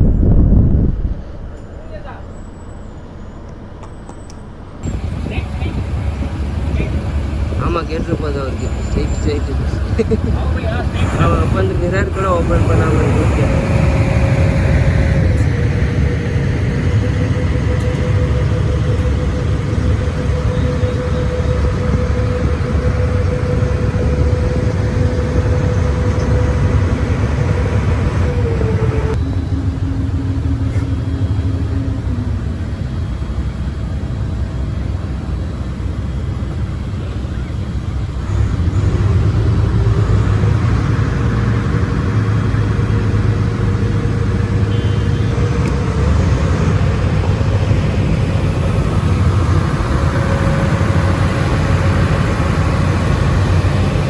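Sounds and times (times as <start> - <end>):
ferry engine rumbling: 0.0 - 54.0.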